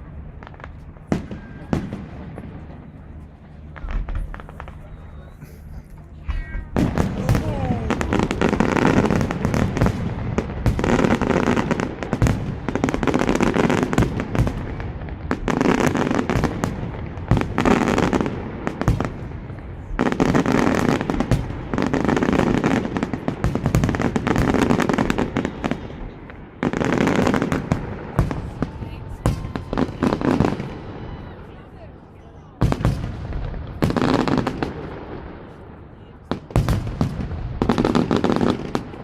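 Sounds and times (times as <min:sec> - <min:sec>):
fireworks crackling and banging: 0:00.0 - 0:31.6, 0:32.4 - 0:39.0.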